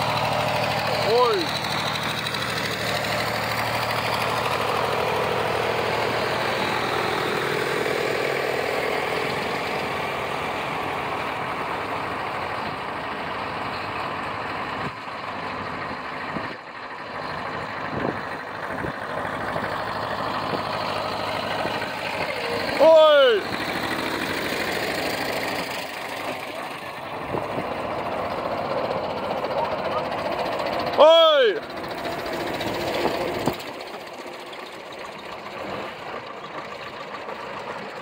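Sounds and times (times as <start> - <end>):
old tractor engines passing: 0.0 - 38.0.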